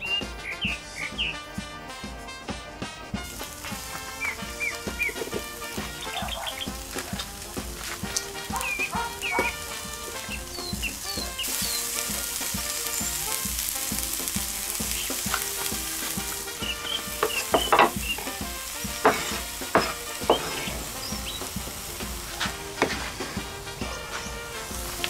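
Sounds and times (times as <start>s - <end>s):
onions sizzling in a frying pan: 3.2s - 25.0s
wooden spoon scraping a pan: 3.2s - 25.0s.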